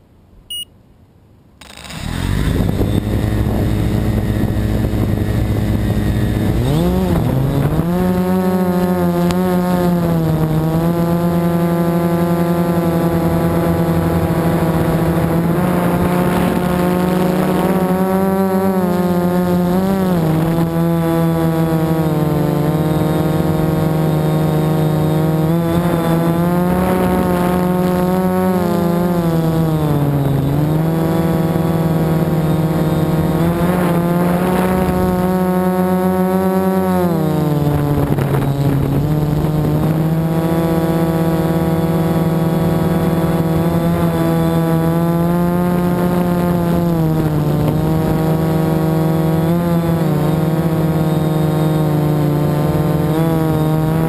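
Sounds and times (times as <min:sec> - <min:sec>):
drone propellers buzzing: 0:01.6 - 0:54.0.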